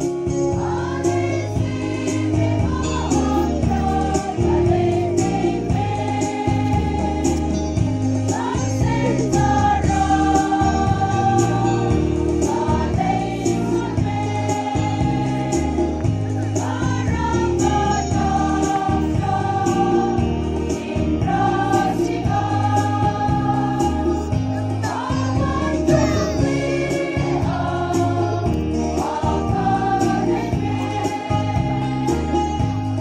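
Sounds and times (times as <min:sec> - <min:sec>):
instrumental backing with bass: 0:00.0 - 0:33.0
women's choir singing a hymn: 0:00.0 - 0:33.0.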